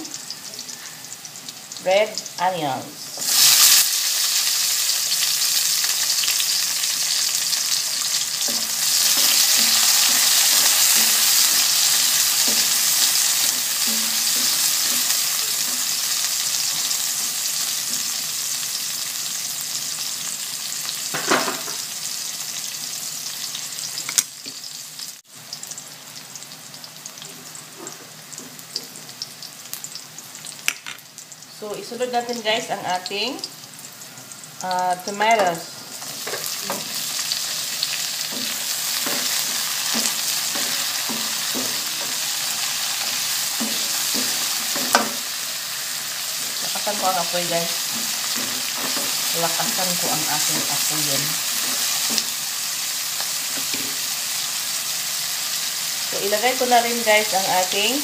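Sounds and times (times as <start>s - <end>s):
onions sizzling in hot oil: 0.0s - 58.0s.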